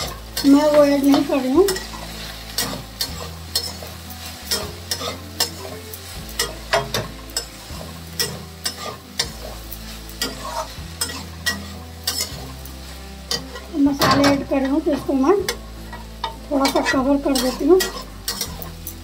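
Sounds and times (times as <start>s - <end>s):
dry frying sizzle: 0.0s - 19.0s
metal spatula scraping a pan: 0.0s - 19.0s.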